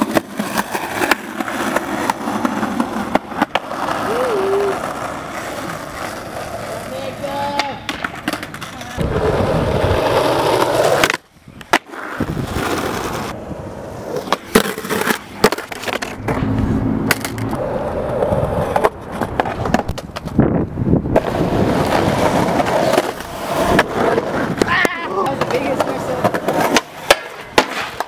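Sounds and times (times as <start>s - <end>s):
skateboard clacks: 0.0s - 13.4s, 14.2s - 20.4s, 21.1s - 28.0s
skateboard wheels rolling on concrete: 0.0s - 28.0s.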